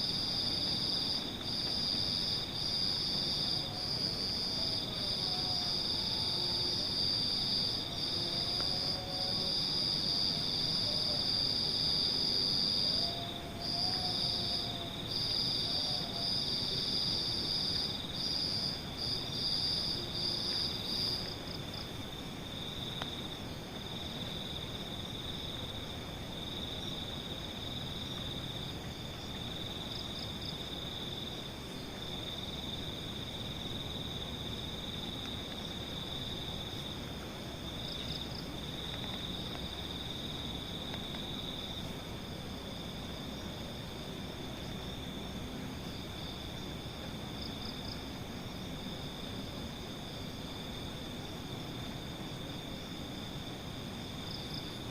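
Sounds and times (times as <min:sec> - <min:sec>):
lower cricket trill: 0:00.0 - 0:54.9.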